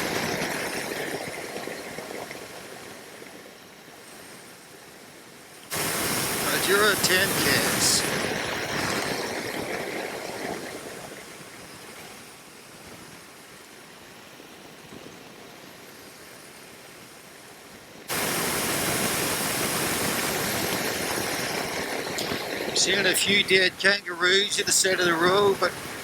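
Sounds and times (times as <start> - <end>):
wind and road rush: 0.0 - 4.8, 5.7 - 13.8, 17.0 - 26.0.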